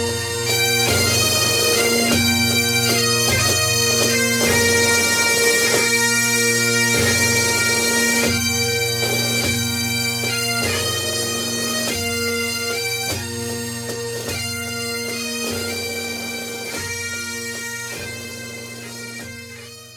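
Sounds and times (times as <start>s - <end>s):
droning wind instrument melody: 0.0s - 19.9s.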